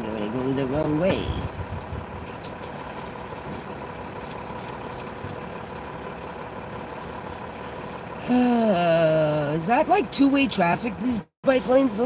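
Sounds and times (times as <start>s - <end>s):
car idling: 0.0s - 12.0s
street traffic: 0.0s - 12.0s.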